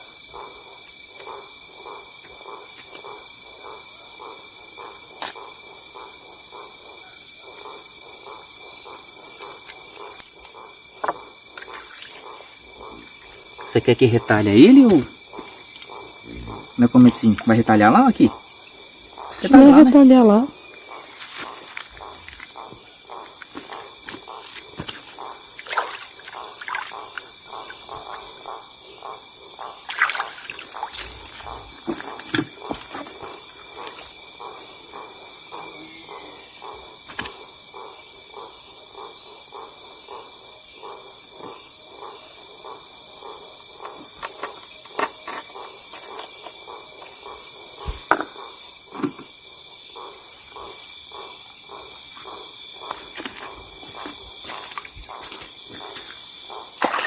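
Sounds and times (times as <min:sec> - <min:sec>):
night insects chorus: 0:00.0 - 0:57.0.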